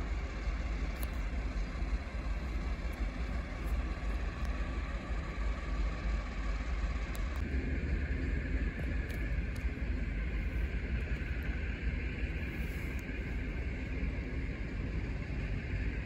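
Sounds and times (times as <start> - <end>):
railway station low rumble: 0.0 - 16.0.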